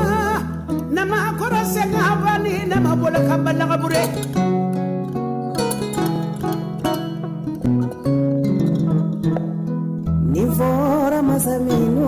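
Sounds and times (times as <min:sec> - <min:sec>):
fast plucked strings: 0:00.0 - 0:12.0.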